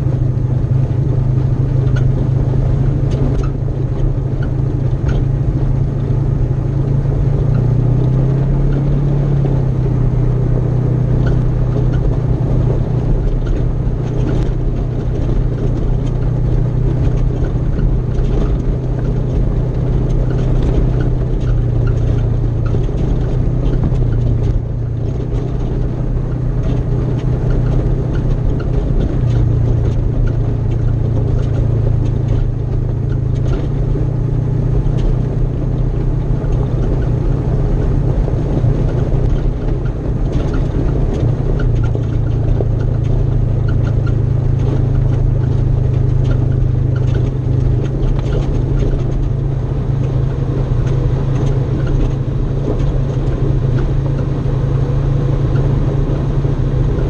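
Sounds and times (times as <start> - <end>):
engine droning: 0.0 - 57.0
gravel ticks: 0.0 - 57.0.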